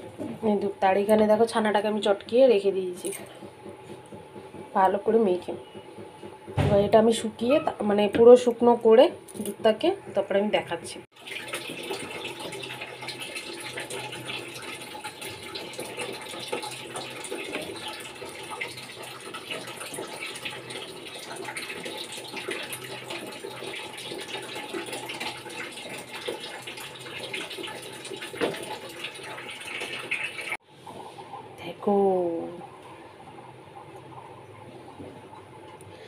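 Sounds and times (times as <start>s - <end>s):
milk boiling and bubbling: 0.0s - 36.0s.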